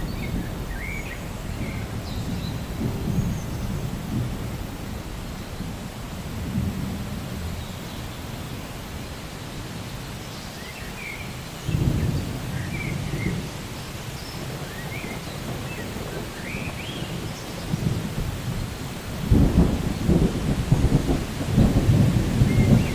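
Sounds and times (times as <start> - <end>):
low thunder rolls: 0.0 - 9.1, 11.6 - 22.9
steady rain: 0.0 - 22.9.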